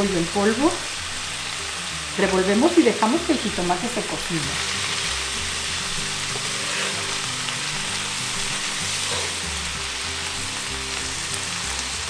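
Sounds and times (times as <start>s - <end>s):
soft background music: 0.0s - 12.0s
vegetables sizzling in a skillet: 0.0s - 12.0s.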